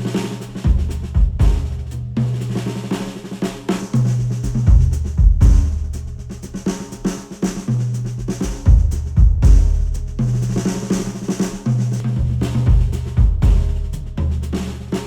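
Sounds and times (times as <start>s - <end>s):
instrumental music with drum beat: 0.0s - 15.0s.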